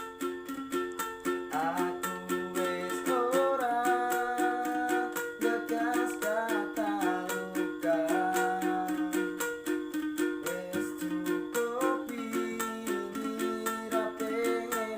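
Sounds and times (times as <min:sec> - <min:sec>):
fast strumming on string instrument: 0:00.0 - 0:14.9
person singing: 0:01.2 - 0:14.9.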